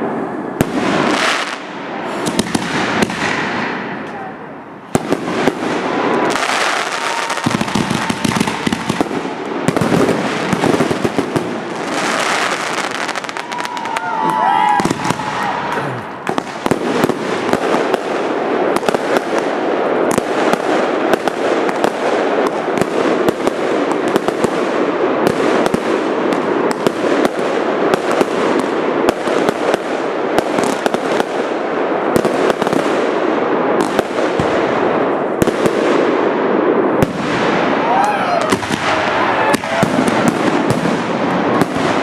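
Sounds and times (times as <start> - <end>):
fireworks bangs: 0.0 - 42.0
fireworks crackling: 0.0 - 42.0.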